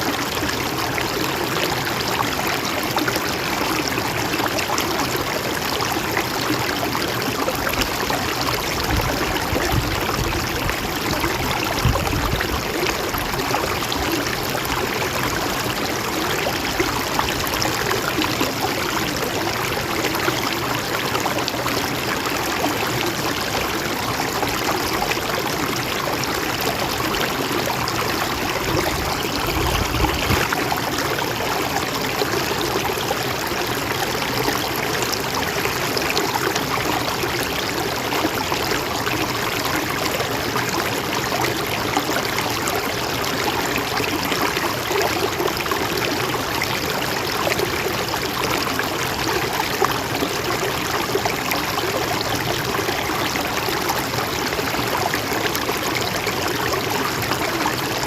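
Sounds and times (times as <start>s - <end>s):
stream water rushing and trickling: 0.0s - 58.0s.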